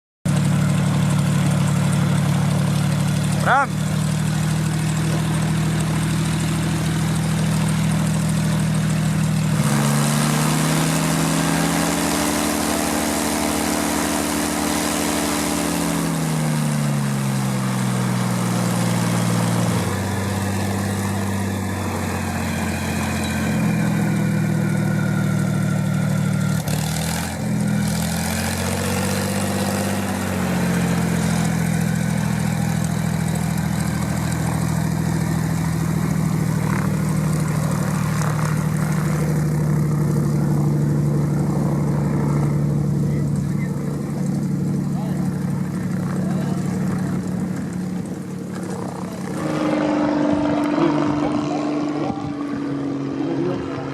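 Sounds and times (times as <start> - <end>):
piston engine and propeller: 0.3 - 53.9.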